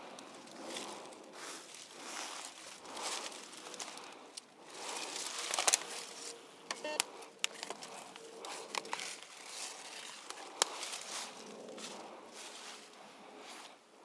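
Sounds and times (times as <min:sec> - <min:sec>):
dry leaves crunching: 0:00.0 - 0:13.7
twigs snapping: 0:00.1 - 0:12.1.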